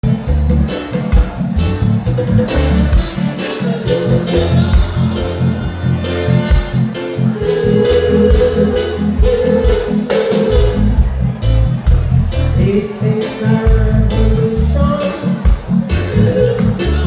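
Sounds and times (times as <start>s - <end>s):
drums: 0.0s - 17.0s
guitar: 0.0s - 17.0s
heavy bass line: 0.0s - 17.0s
sustained melody: 0.0s - 17.0s.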